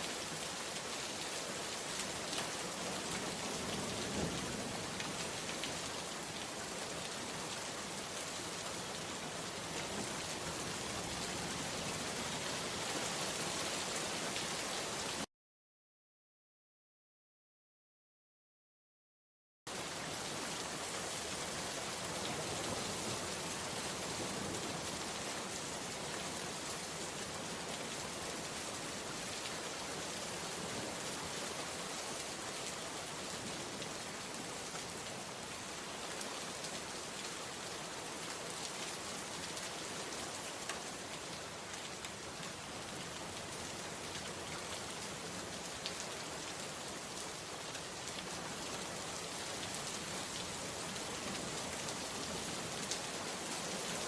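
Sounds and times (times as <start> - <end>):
steady rain falling: 0.0 - 15.3, 19.7 - 54.0.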